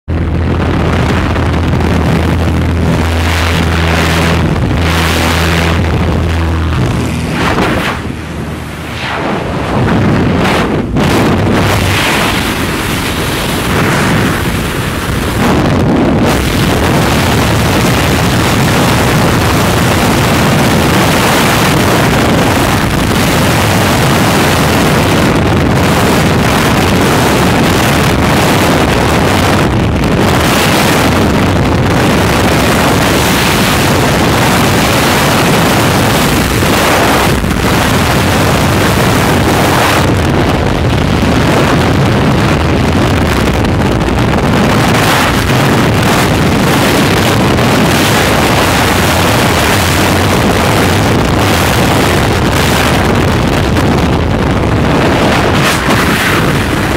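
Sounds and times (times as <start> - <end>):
wind roaring over microphone: 0.0 - 56.9.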